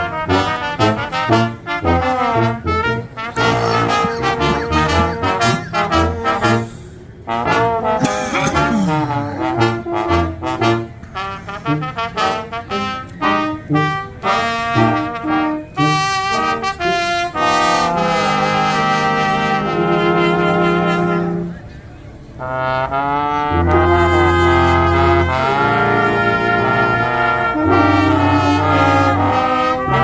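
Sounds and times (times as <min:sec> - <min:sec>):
brass music: 0:00.0 - 0:21.6, 0:22.3 - 0:30.0.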